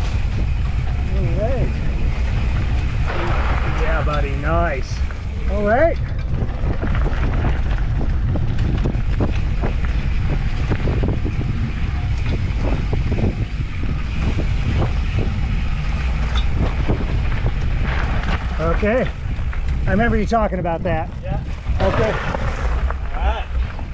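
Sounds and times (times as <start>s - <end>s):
grit clicking under wheels: 0.0s - 23.9s
low rumble of tyres: 0.0s - 23.9s
wind buffeting microphone: 0.0s - 23.9s.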